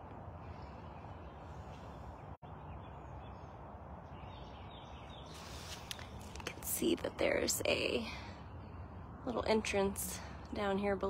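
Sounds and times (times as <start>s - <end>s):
distant bird chirps: 0.2s - 9.2s.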